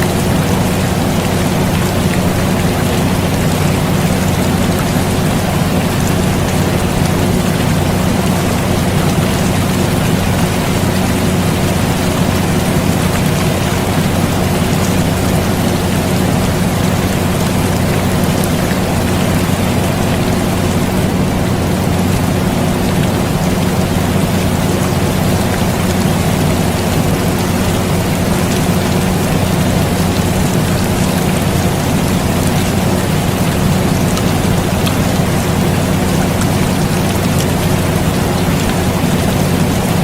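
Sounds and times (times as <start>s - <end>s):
air conditioner humming: 0.0s - 40.0s
steady rain hiss: 0.0s - 40.0s.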